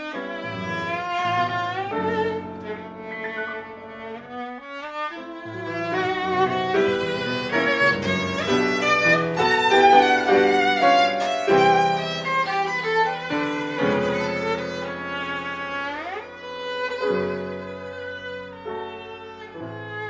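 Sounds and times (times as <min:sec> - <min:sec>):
piano chords and bass notes: 0:00.0 - 0:20.0
viola playing a melody: 0:00.0 - 0:20.0.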